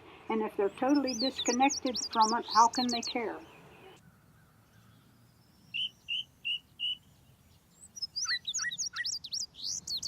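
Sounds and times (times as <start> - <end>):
songbird singing: 0.0 - 10.0.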